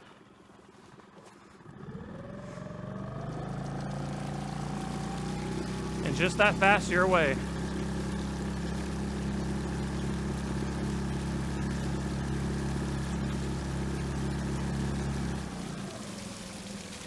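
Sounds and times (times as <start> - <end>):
outboard motor running: 0.3 - 17.0.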